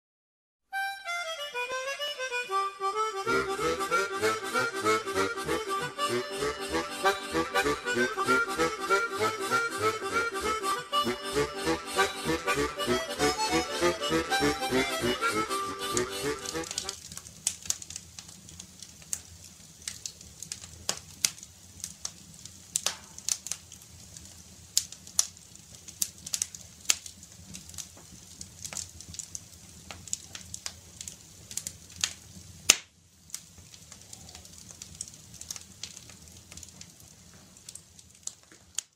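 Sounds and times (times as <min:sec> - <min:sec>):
fireplace crackling: 0:00.7 - 0:38.9.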